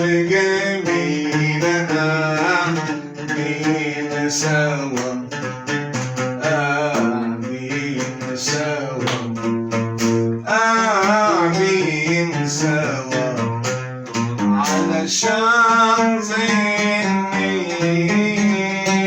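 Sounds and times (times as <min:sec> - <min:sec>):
man singing with vibrato: 0:00.0 - 0:19.0
plucked strings: 0:00.0 - 0:19.0.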